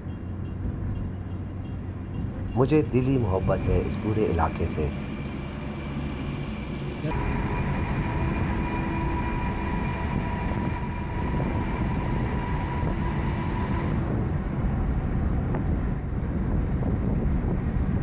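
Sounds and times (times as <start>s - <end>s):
traffic rumble in a tunnel: 0.0s - 18.0s.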